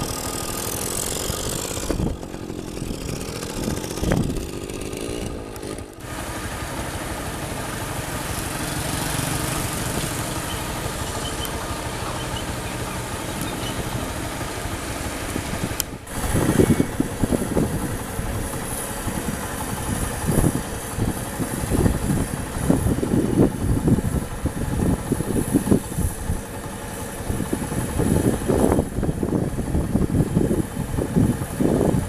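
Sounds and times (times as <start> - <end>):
combine harvester engine rumble: 0.0 - 32.0.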